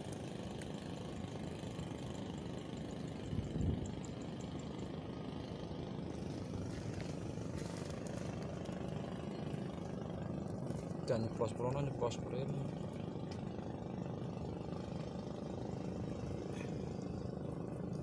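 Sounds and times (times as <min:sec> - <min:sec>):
small engine idling: 0:00.0 - 0:18.0.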